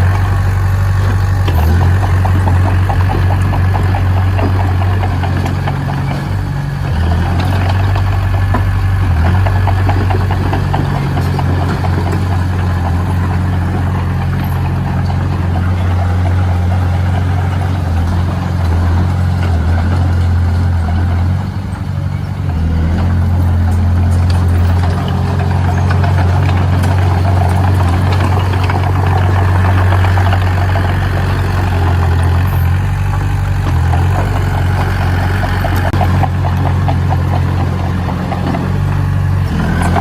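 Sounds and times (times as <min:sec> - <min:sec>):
heavy diesel engine running: 0:00.0 - 0:40.0.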